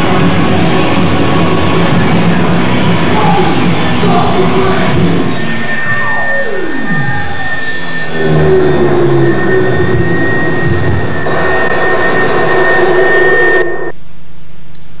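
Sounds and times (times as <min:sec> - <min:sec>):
rock band amplified noise drone: 0:00.0 - 0:14.0
low hum: 0:00.0 - 0:15.0
steady high whine: 0:00.0 - 0:15.0.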